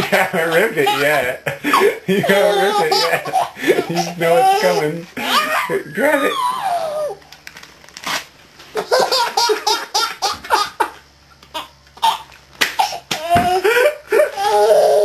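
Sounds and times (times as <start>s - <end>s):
baby laughing: 0.0s - 7.2s, 8.8s - 15.0s.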